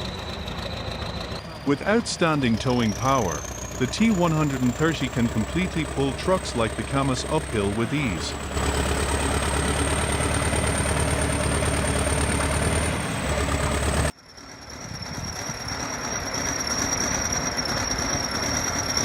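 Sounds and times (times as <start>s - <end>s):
bulldozer diesel engine under load: 0.0s - 19.0s.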